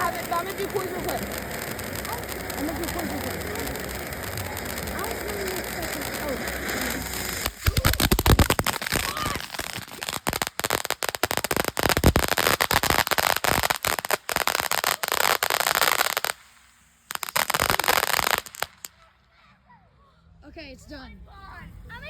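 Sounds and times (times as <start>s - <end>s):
firework hissing spray: 0.0s - 19.0s
firework crackling: 0.0s - 19.3s.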